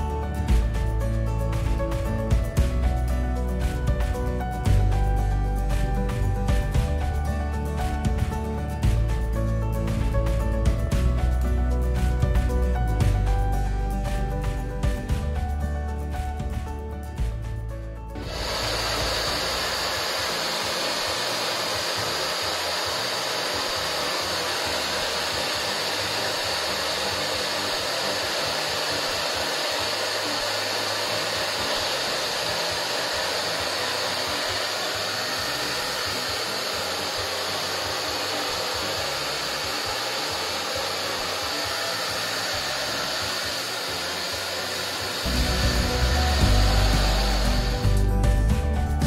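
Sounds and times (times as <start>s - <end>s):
hair dryer blowing: 0.0s - 9.2s, 18.2s - 48.7s.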